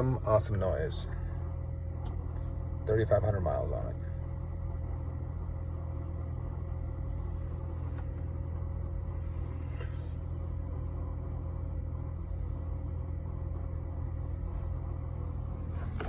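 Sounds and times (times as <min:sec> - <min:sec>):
car engine idling with grinding drone: 0:00.0 - 0:16.0.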